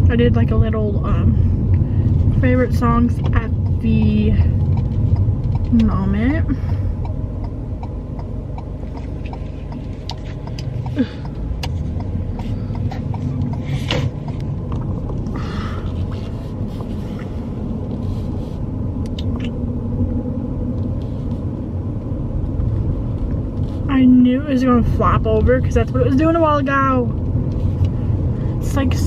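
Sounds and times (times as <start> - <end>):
road and engine rumble: 0.0 - 29.0.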